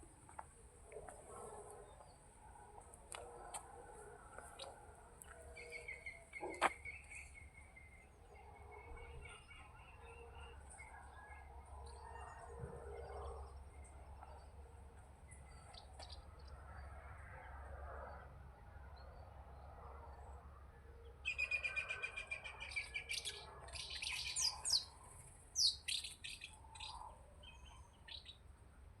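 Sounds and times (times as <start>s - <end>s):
songbirds singing: 0.3s - 18.2s, 21.0s - 28.5s.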